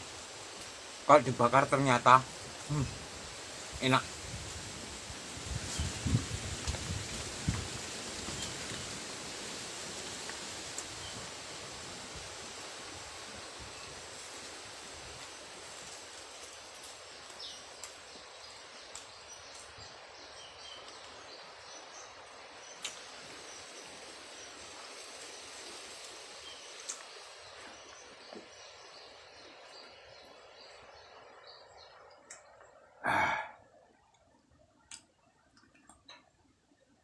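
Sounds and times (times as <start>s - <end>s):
steady hiss: 0.0s - 36.7s.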